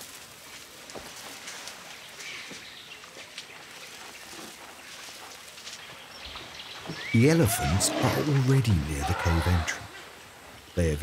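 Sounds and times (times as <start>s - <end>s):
twigs cracking: 0.0s - 10.2s
leaves and brush rustling: 0.0s - 11.0s.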